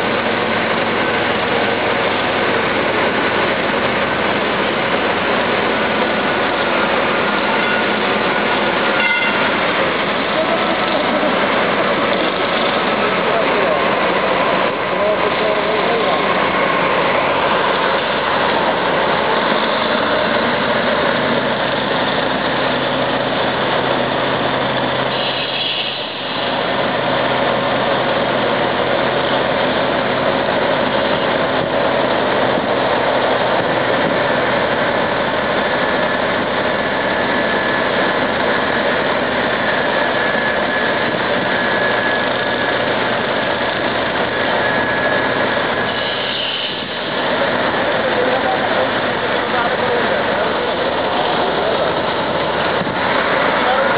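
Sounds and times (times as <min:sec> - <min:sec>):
heavy diesel engines under load: 0:00.0 - 0:53.9.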